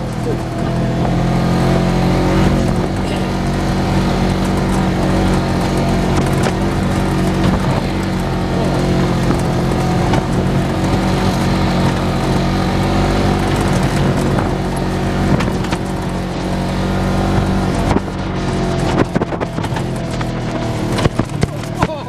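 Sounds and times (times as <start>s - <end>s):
knocks and rattles over bumps: 0.0s - 22.0s
utility vehicle engine running: 0.0s - 22.0s.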